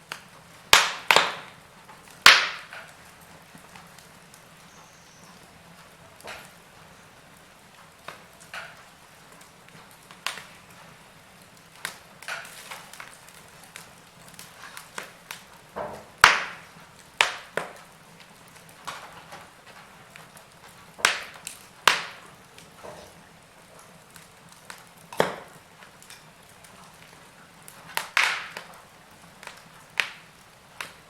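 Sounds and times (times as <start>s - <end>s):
soft steady hiss: 0.0s - 31.0s
wood fire crackling: 0.0s - 31.0s.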